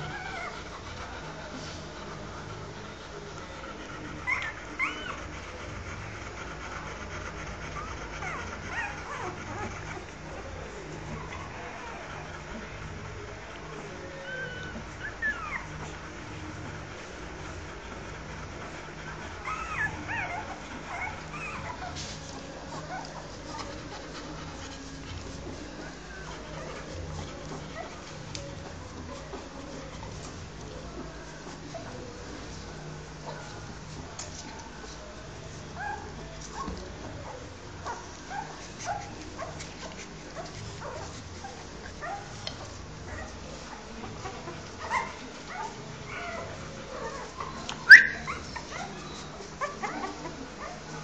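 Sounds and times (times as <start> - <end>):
puppies whimpering: 0.0 - 51.0.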